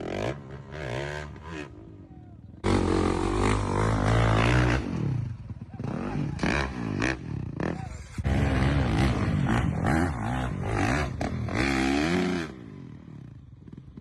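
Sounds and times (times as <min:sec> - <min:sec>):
dirt bike engine revving: 0:00.0 - 0:02.0, 0:02.6 - 0:14.0.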